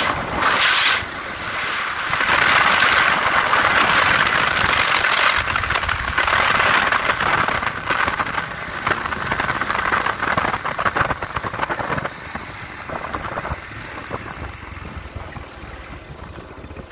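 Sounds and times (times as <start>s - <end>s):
wind buffeting microphone: 1.9s - 16.9s
motorcycle engine running: 2.0s - 16.9s.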